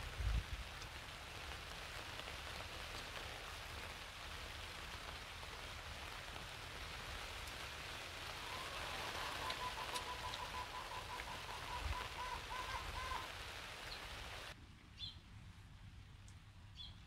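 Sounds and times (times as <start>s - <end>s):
heavy rain on a tarp: 0.0s - 14.6s.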